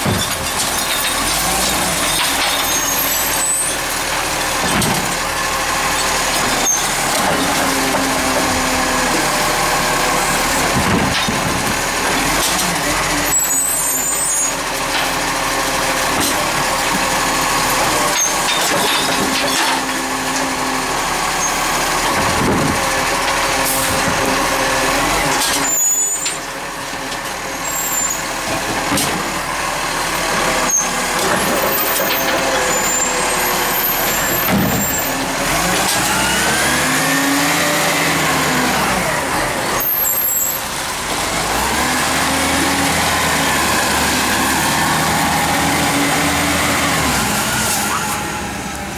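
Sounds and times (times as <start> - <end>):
garbage truck engine running: 0.0 - 48.9.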